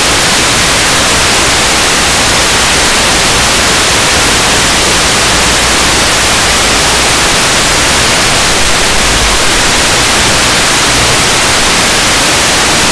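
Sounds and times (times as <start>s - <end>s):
static hiss: 0.0s - 12.9s.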